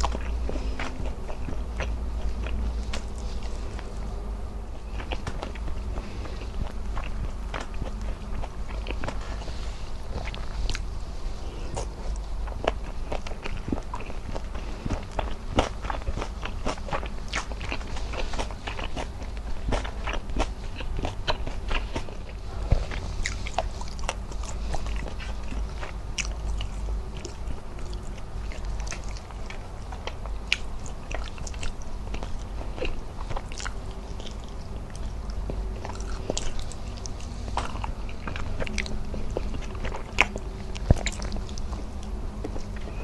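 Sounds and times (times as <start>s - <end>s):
person chewing: 0.0s - 43.0s.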